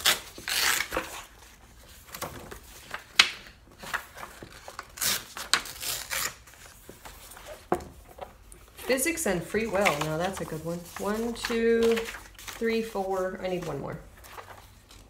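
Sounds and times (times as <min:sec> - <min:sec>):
paper pages rustling: 0:00.0 - 0:15.0.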